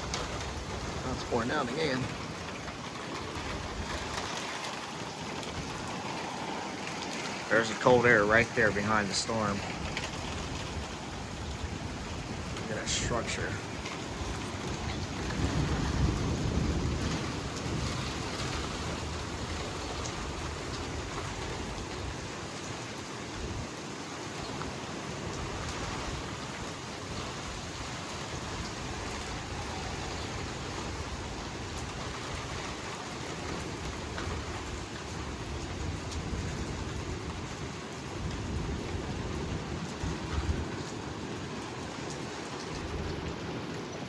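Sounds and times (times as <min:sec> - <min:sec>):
low thunder rumble: 0:00.0 - 0:22.4, 0:25.1 - 0:44.0
heavy rain pouring: 0:00.0 - 0:44.0.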